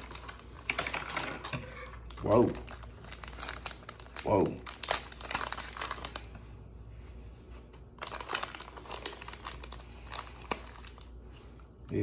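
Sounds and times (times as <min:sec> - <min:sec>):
plastic packaging crinkling: 0:00.0 - 0:06.5, 0:07.9 - 0:12.0.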